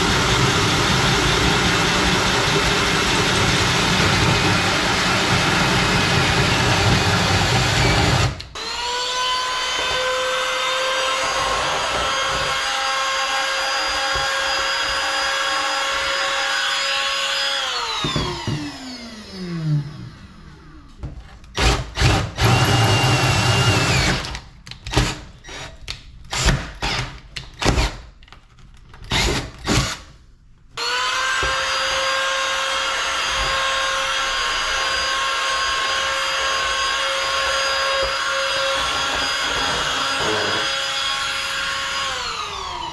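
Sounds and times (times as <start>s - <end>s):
power drill boring fiberglass: 0.0s - 20.5s, 21.6s - 25.7s, 30.8s - 42.9s.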